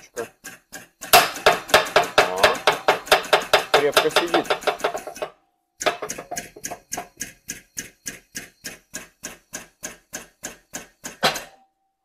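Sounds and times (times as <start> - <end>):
hammer tapping on metal: 0.7 - 11.5.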